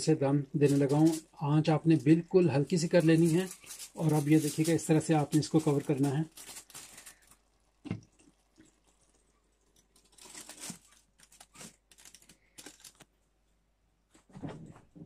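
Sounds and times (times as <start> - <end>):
aluminium foil crinkling: 0.6 - 13.1.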